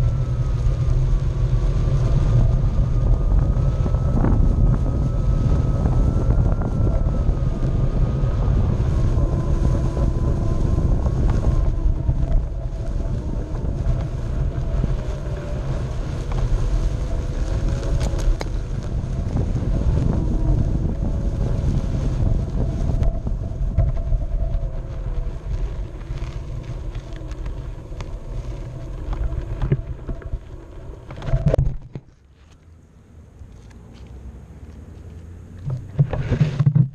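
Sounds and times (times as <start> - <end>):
electric motor whining: 0.0 - 31.6
wind rumble on microphone: 0.0 - 36.9.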